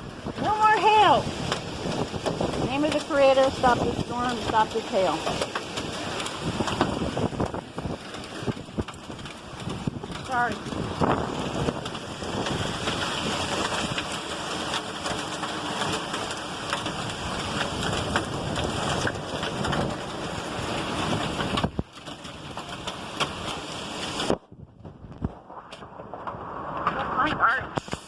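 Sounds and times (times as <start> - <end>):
gusty wind: 0.0 - 28.0
hailstones ticking: 0.0 - 28.0
heavy rain: 0.0 - 28.0.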